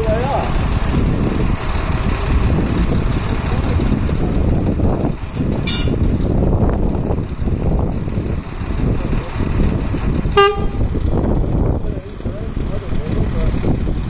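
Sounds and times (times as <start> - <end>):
road and wind noise: 0.0 - 14.0
truck engine rumbling: 0.0 - 14.0.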